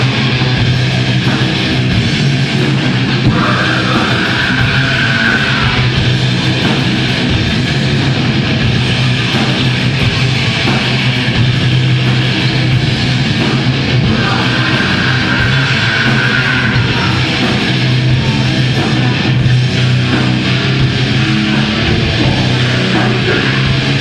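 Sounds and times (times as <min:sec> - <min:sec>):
distorted electric guitar: 0:00.0 - 0:24.0
drums: 0:00.0 - 0:24.0.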